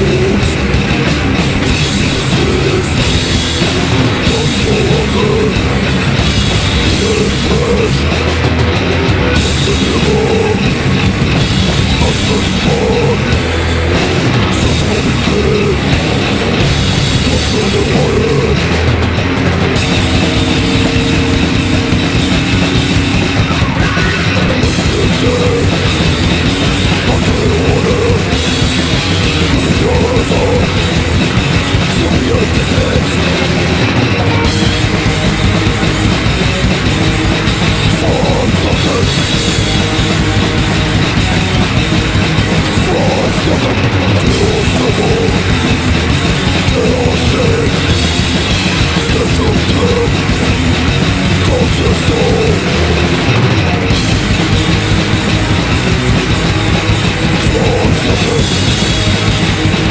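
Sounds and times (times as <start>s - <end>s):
bass guitar: 0.0s - 59.9s
distorted electric guitars: 0.0s - 59.9s
drums: 0.0s - 59.9s.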